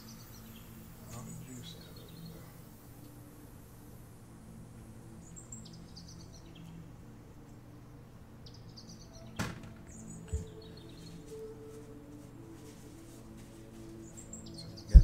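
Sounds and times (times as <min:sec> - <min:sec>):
steady low hum: 0:00.0 - 0:09.2, 0:09.8 - 0:15.0.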